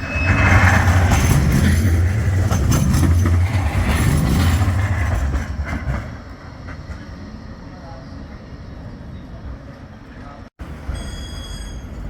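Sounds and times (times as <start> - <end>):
tram passing with rail noise: 0.0 - 12.0.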